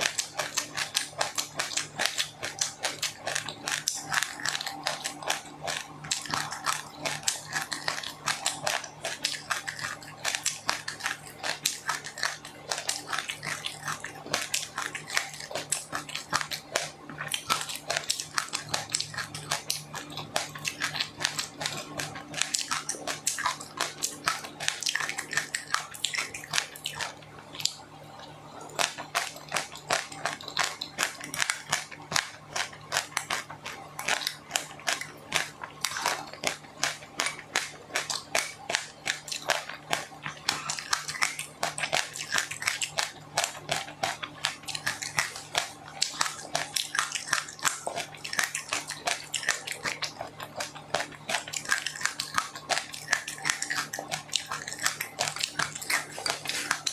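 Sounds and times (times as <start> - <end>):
chewing crunchy food: 0.0 - 56.9
low steady hum: 0.0 - 56.9.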